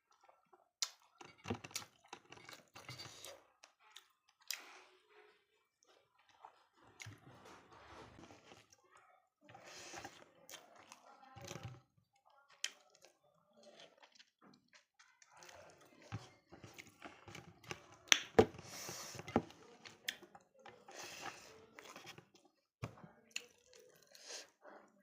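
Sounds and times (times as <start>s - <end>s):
chewing with wet mouth sounds: 0.0s - 22.6s, 23.2s - 24.6s.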